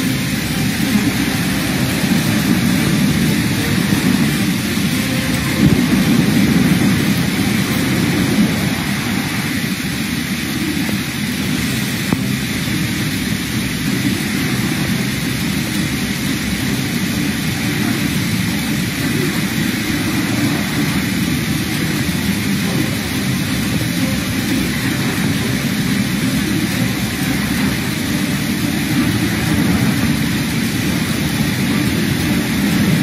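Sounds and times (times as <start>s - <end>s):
floodwater rushing: 0.0s - 33.0s
rain hissing: 0.0s - 33.0s.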